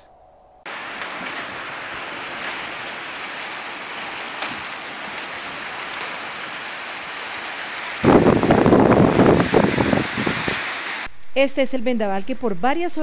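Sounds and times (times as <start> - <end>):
heavy rain pouring: 0.7 - 11.1
sharp raindrop hits: 0.7 - 11.1.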